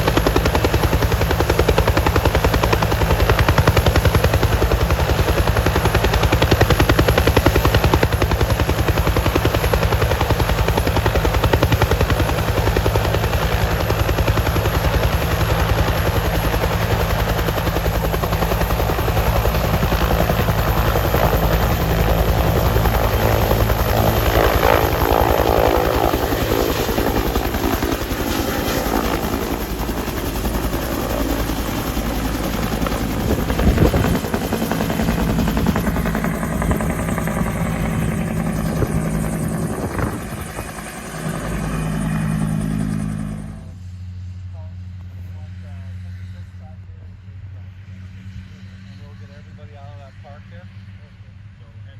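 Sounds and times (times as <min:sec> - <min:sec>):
helicopter rotor blade chop: 0:00.0 - 0:43.8
turbine engine whine: 0:00.0 - 0:51.9.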